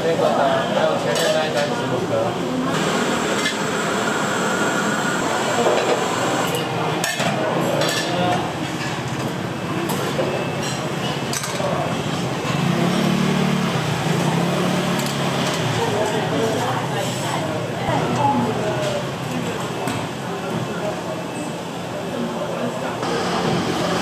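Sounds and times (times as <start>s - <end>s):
indistinct chatter: 0.0s - 24.0s.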